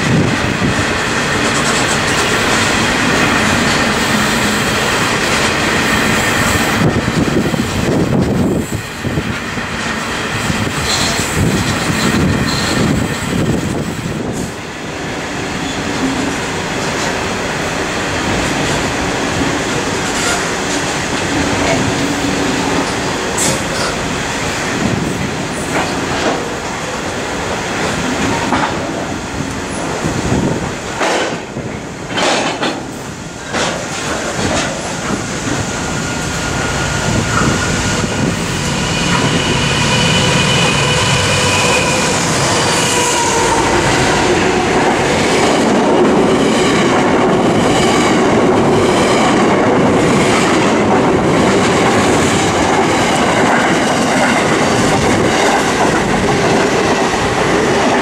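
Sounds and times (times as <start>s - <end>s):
wind buffeting microphone: 0.0s - 15.5s, 16.4s - 32.2s, 32.8s - 58.0s
diesel locomotive engines: 0.0s - 58.0s
train wheels clattering over rails: 0.0s - 58.0s.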